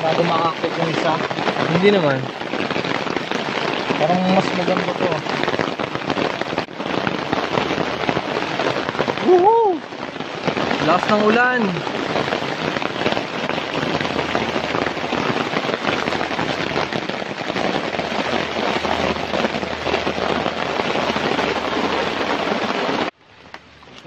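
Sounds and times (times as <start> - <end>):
heavy rain on an umbrella: 0.0 - 24.0.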